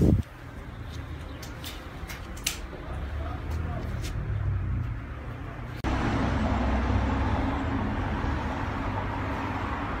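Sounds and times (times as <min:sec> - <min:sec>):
passing vehicles rumble and hiss: 0:00.0 - 0:10.0.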